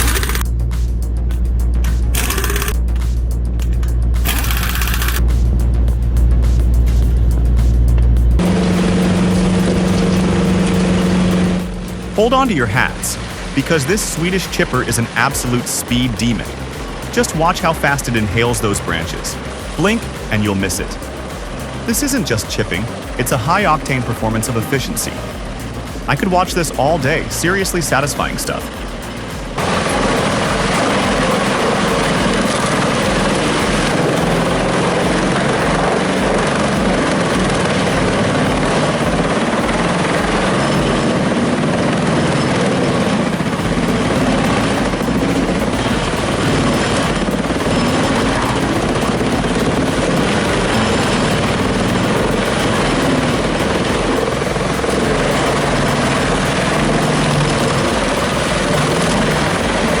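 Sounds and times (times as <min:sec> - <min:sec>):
heavy machine engine running: 0:00.0 - 1:00.0.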